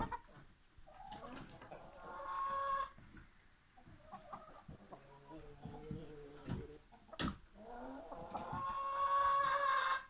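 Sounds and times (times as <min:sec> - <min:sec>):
chickens calling: 0:00.0 - 0:10.0.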